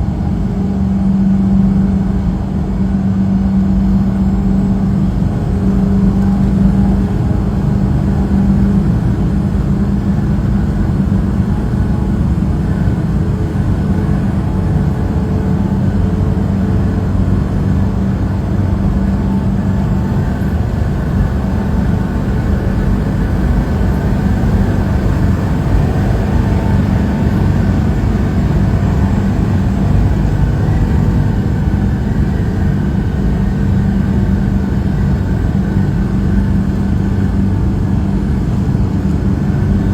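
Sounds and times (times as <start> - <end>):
road noise: 0.0 - 39.9
truck engine running: 0.0 - 39.9.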